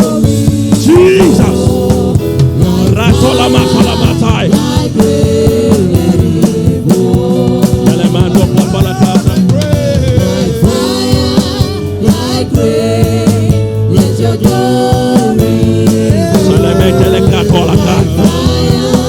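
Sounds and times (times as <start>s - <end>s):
worship song with instruments: 0.0s - 19.0s.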